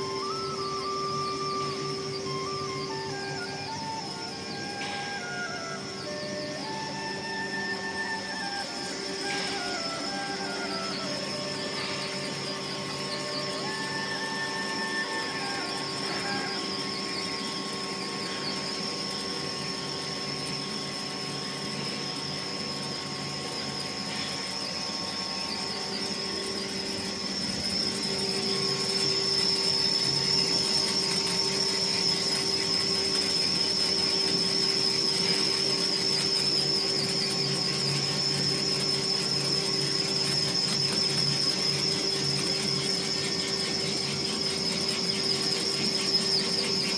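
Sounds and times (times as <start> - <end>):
cnc turning machine running: 0.0 - 46.9.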